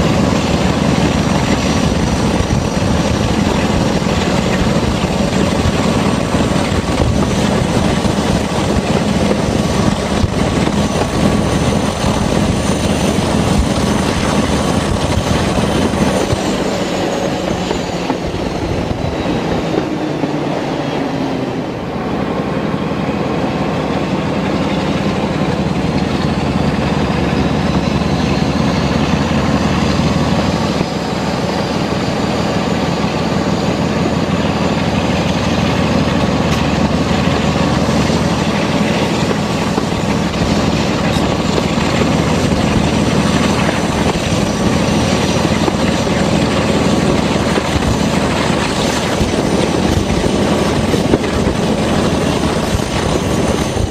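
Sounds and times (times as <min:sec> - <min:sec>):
diesel locomotive engine thrash: 0:00.0 - 0:53.9
rush of train on track: 0:00.0 - 0:53.9.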